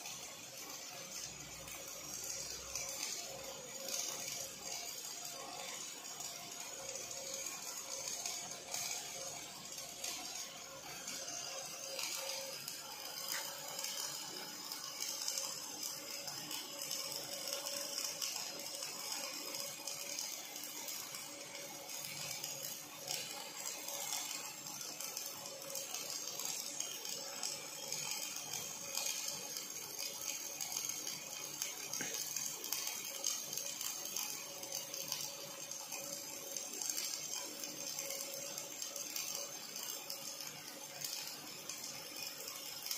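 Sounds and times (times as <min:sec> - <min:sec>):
welding arc hissing crackle: 0:00.0 - 0:42.9.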